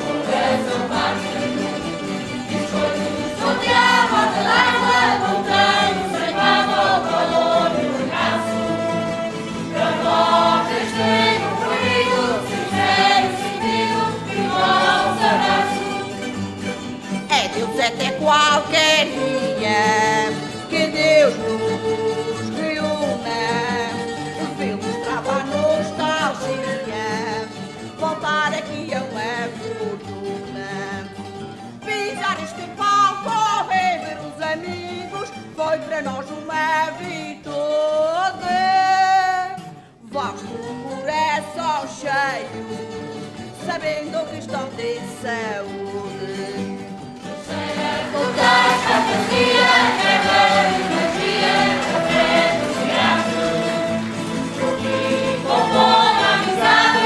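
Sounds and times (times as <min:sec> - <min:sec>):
person singing: 0:00.0 - 0:16.3, 0:17.2 - 0:31.1, 0:40.1 - 0:57.0
plucked string instruments melody: 0:00.0 - 0:57.0.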